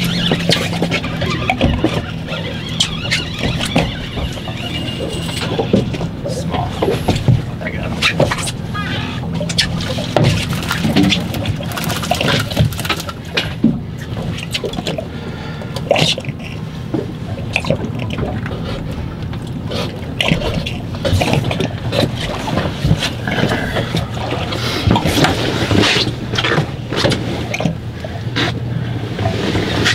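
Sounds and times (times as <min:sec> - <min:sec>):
water slapping boat hull: 0:00.0 - 0:29.9.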